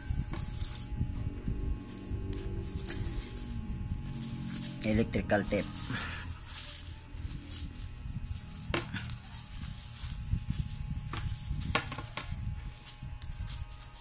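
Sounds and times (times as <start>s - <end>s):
low handling rumble: 0.0s - 14.0s
plastic bag rustling: 0.0s - 14.0s.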